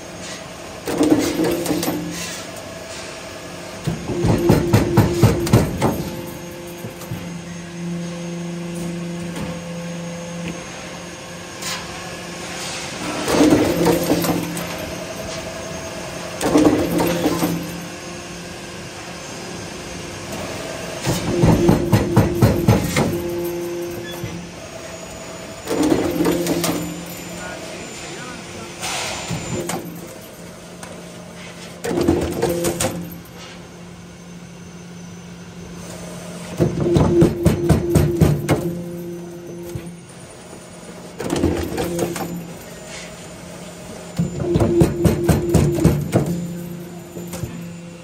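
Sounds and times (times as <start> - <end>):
machine hum: 0.0 - 48.0.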